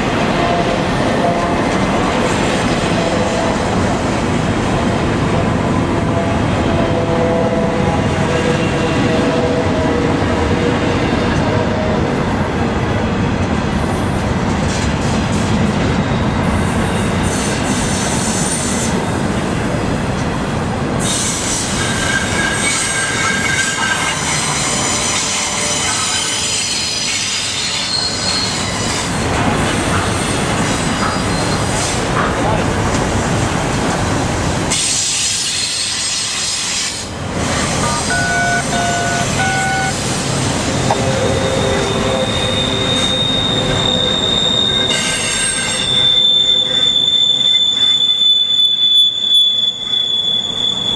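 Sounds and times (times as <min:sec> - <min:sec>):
train wheels squealing on rails: 0:00.0 - 0:12.5, 0:13.6 - 0:19.8, 0:20.9 - 0:33.4, 0:34.6 - 0:50.9
train rumble: 0:00.0 - 0:48.0.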